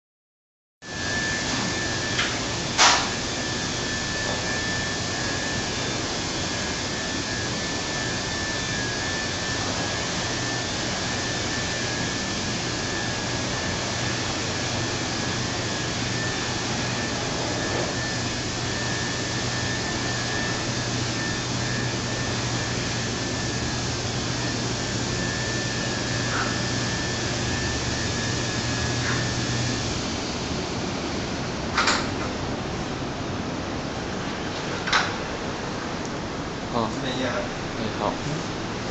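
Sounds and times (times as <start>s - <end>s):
faint high whine: 0.8s - 32.2s.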